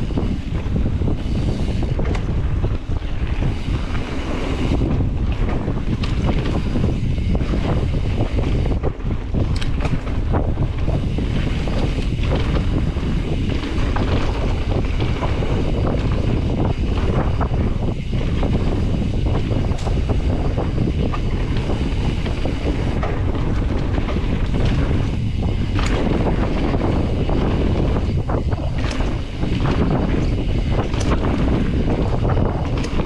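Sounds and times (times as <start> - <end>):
bike clicks and rattles: 0.0 - 33.0
wind buffeting microphone: 0.0 - 33.0.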